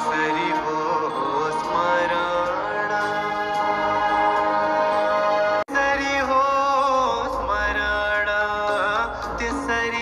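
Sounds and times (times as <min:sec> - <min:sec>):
slow chant-like devotional music: 0:00.0 - 0:10.0.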